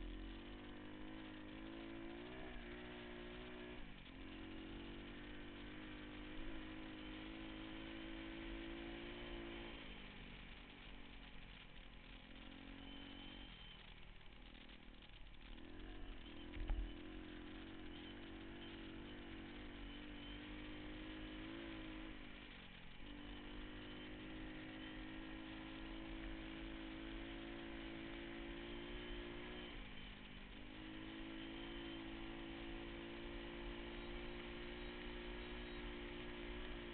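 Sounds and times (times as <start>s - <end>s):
pit bike engine running: 0.0s - 36.9s.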